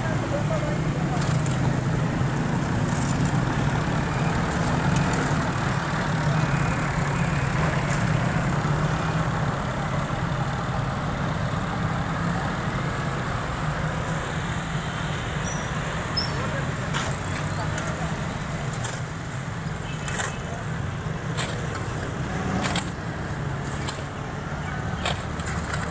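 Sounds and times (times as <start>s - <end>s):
heavy vehicle engine humming: 0.0s - 25.9s.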